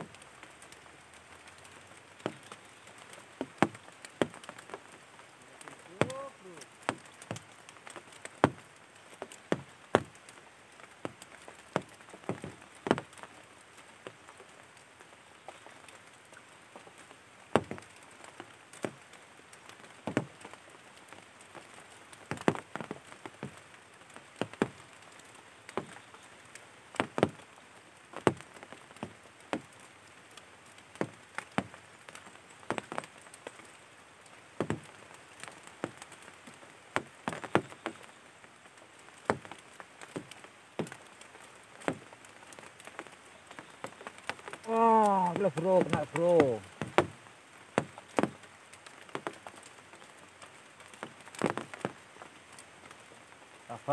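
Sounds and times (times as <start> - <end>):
faint steady hiss: 0.0 - 53.9.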